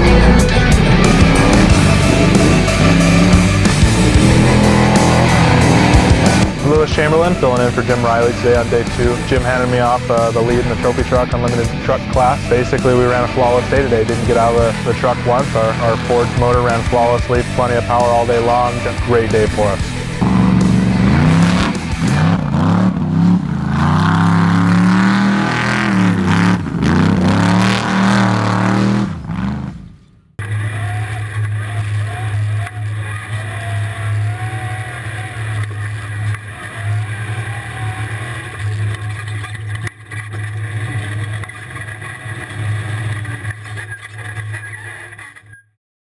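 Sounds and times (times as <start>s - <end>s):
steady engine drone: 0.0s - 44.6s
truck engine revving hard: 0.0s - 45.0s.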